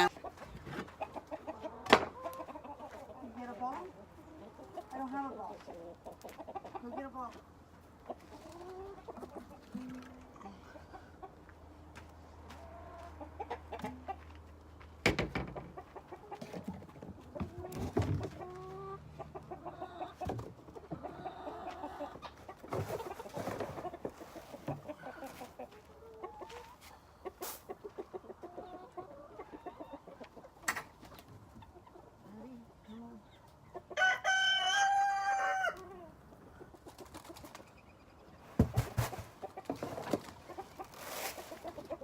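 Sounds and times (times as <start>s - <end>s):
chickens clucking and calling: 0.0s - 42.0s.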